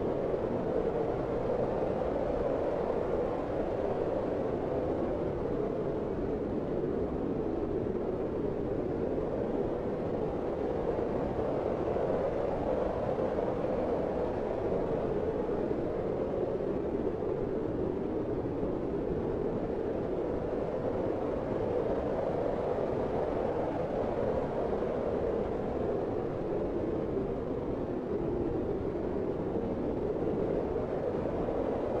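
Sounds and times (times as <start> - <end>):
blizzard wind blowing: 0.0 - 32.0.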